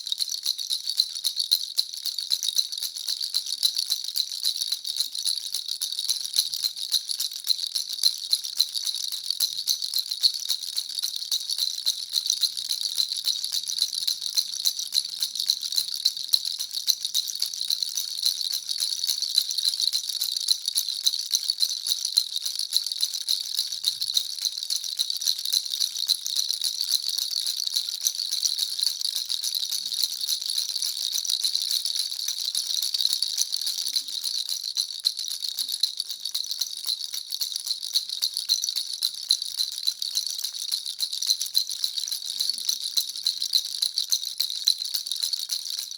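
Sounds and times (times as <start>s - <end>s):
baby rattle shaking: 0.0s - 45.9s.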